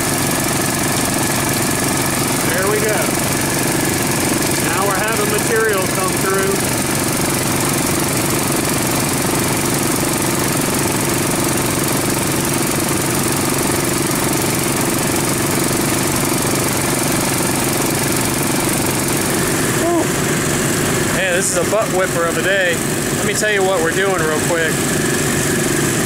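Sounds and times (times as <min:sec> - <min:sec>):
dredge engine running: 0:00.0 - 0:26.0.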